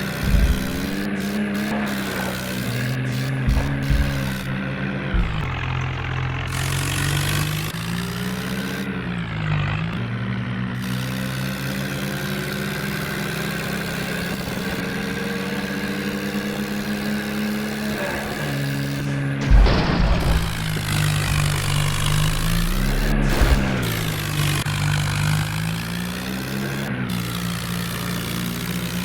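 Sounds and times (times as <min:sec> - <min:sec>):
tractor engine revving: 0:00.0 - 0:29.0.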